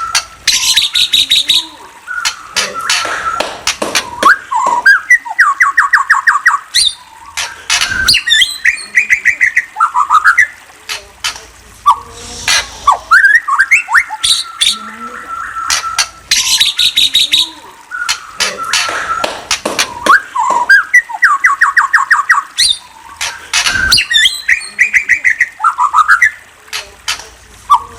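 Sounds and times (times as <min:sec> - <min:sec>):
songbird singing: 0:00.0 - 0:27.9.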